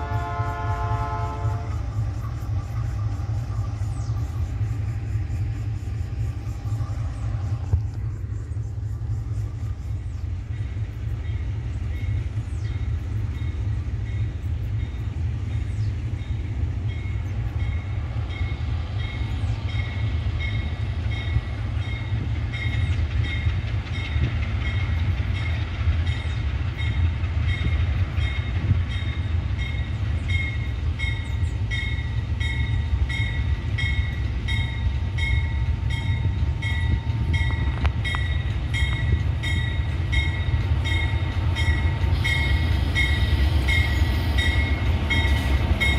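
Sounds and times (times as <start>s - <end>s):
locomotive low rumble: 0.0s - 45.9s.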